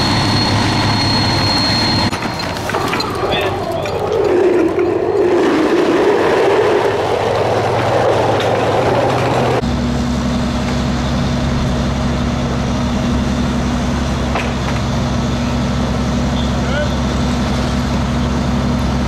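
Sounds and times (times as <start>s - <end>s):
broad rushing noise: 0.0s - 18.6s
fire engine running: 0.0s - 19.0s.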